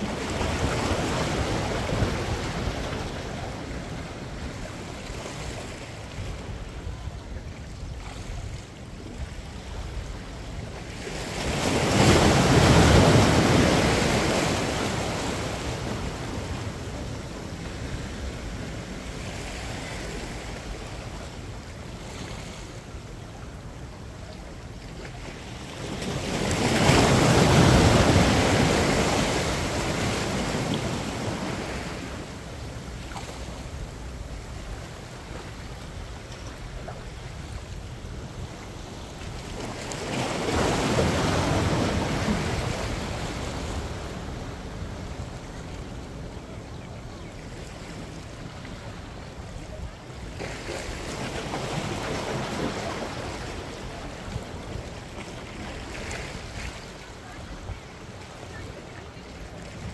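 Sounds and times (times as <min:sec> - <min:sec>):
ocean waves surging on rocks: 0:00.0 - 0:07.5, 0:08.3 - 0:24.2, 0:25.2 - 0:59.9.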